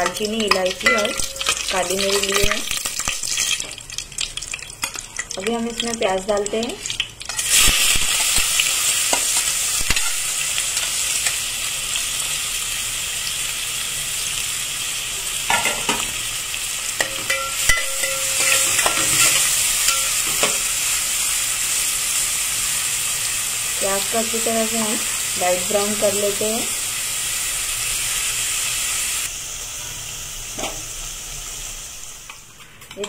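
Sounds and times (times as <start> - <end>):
onions sizzling in hot oil: 0.0 - 33.0.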